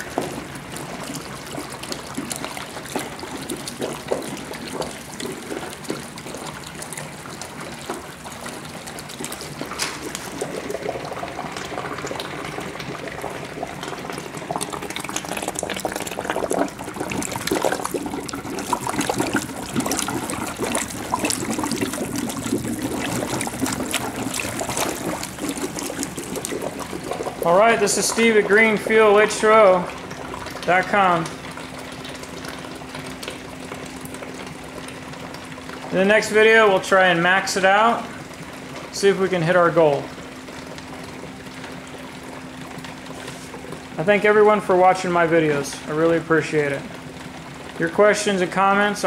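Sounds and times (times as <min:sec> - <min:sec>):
gas bubbling through water: 0:00.0 - 0:49.0.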